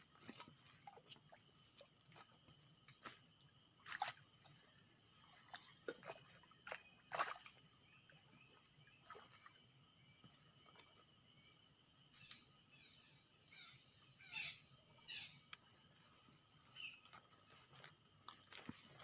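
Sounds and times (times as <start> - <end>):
small water sounds: 0.0 - 19.0.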